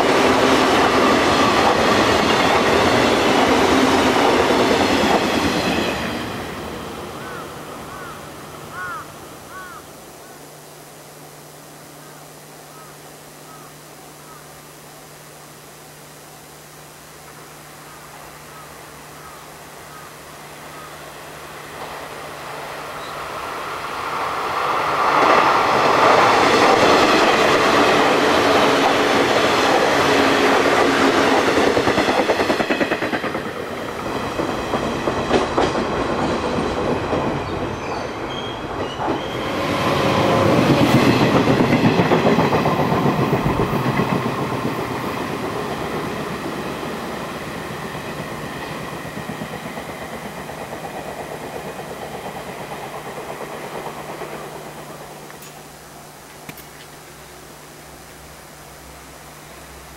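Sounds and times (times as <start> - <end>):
electric train passing at speed: 0.0 - 59.9.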